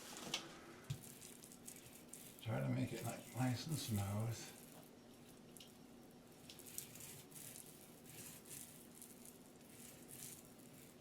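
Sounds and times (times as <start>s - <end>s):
paint roller on wall: 0.0s - 4.8s, 6.5s - 11.0s.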